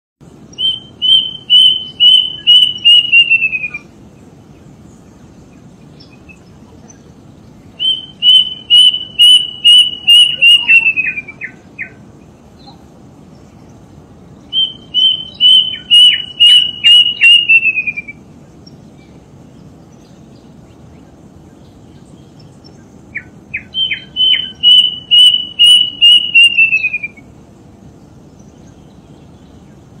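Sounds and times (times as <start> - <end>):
steady background hiss: 0.2 - 30.0
bird singing whistled notes: 0.4 - 27.3.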